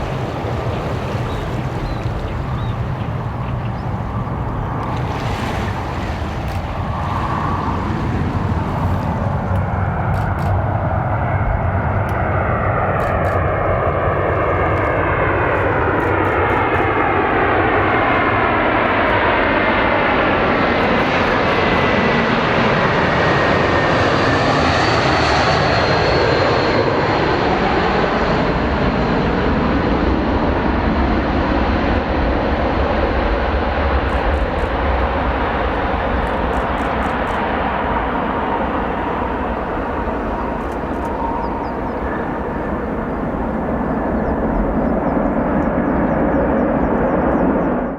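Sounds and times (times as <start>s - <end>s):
jet airliner flying past: 0.0s - 47.9s.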